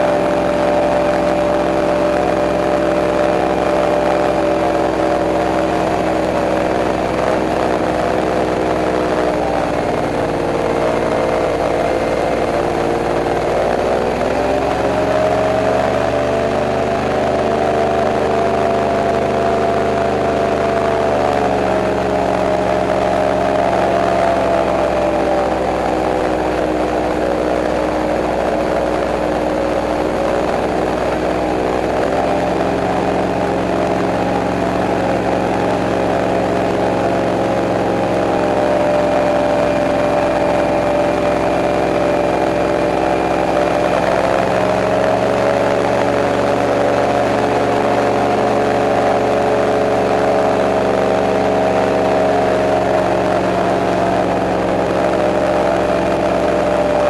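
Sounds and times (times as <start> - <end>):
airboat engine and propeller running: 0.0 - 57.0.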